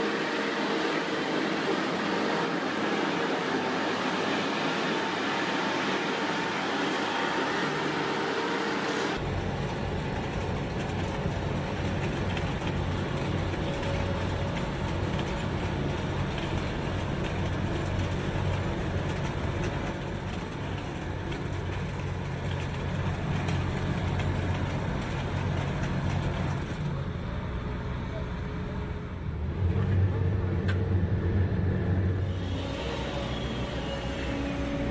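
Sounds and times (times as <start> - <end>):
heavy vehicle engine rumbling: 0.0 - 34.9.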